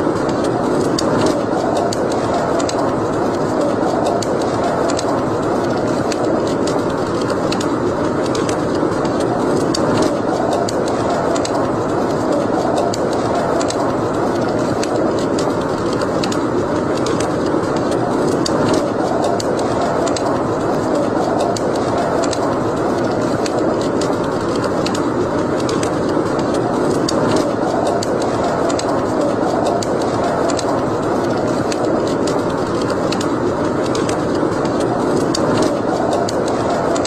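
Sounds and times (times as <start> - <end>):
logs crackling and popping: 0.0 - 37.0
rush of flame: 0.0 - 37.0.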